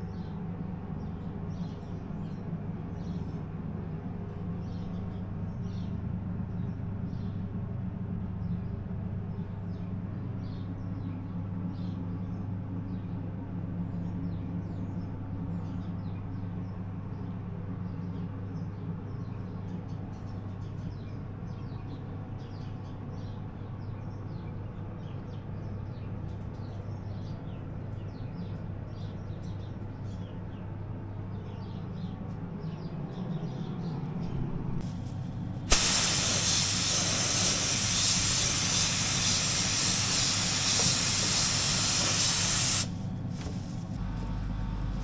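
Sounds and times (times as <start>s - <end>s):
small birds chirping: 0.0s - 7.5s, 8.3s - 13.2s, 13.8s - 44.0s
low machine hum: 0.0s - 45.0s.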